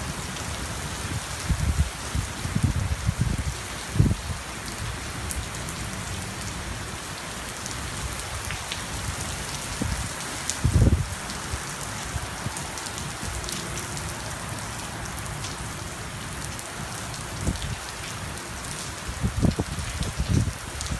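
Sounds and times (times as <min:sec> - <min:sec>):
heavy rain pouring: 0:00.0 - 0:20.9
sharp ticks of raindrops: 0:04.0 - 0:20.9.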